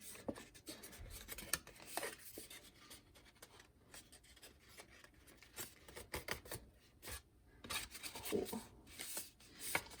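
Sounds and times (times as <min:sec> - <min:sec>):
paper rustling and rubbing: 0:00.0 - 0:10.0.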